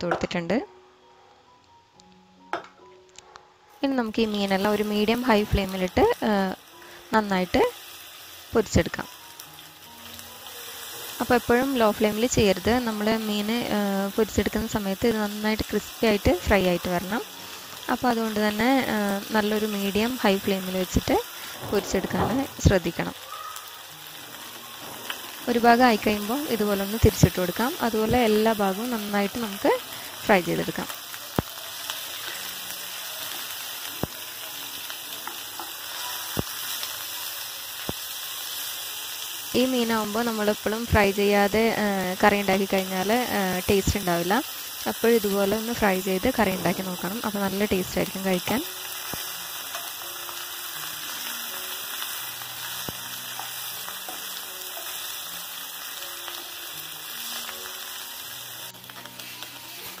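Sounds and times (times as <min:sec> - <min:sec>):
fish sizzling in a pan: 0:04.0 - 1:00.0.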